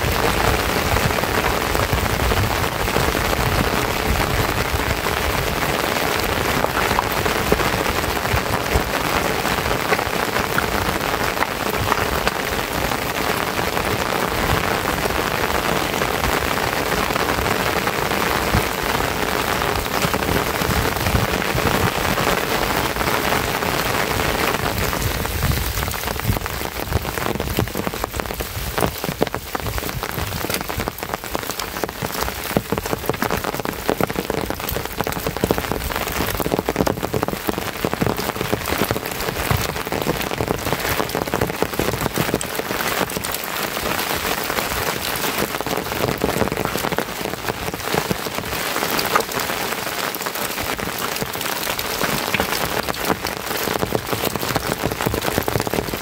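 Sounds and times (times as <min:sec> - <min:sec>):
raindrops striking: 0:00.0 - 0:56.0
steady rain falling: 0:00.0 - 0:56.0.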